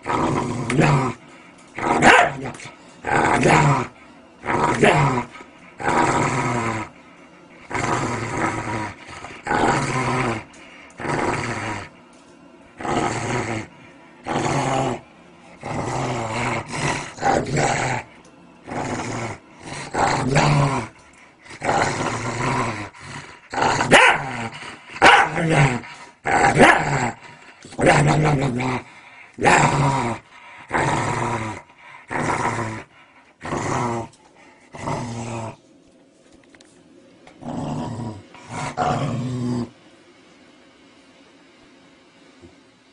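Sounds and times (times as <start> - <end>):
dog growling and barking: 0.0 - 7.0, 7.6 - 12.0, 12.8 - 35.6, 37.3 - 39.8.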